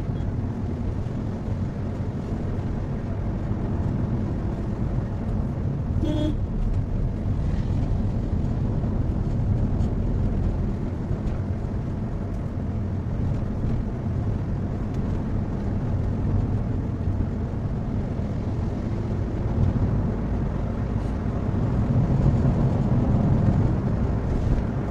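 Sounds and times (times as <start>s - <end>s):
car engine and road noise: 0.0s - 24.9s.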